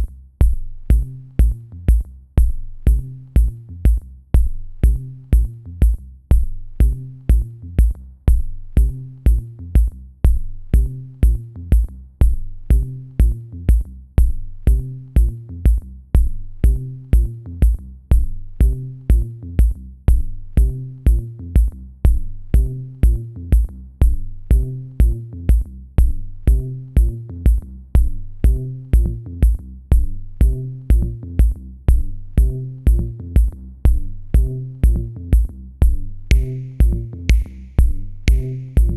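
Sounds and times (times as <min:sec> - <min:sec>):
electronic music with drum-machine beat: 0:00.0 - 0:38.9
repeating low bass line: 0:00.0 - 0:38.9.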